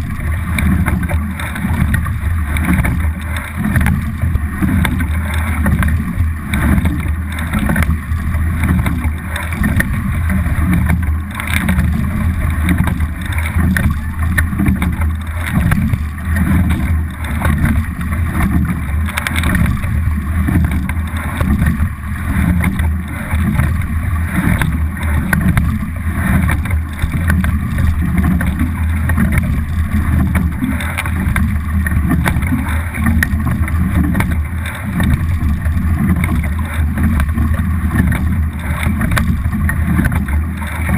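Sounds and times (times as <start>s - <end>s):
steady low rumble: 0.0s - 40.9s
water rushing along boat hull: 0.0s - 40.9s.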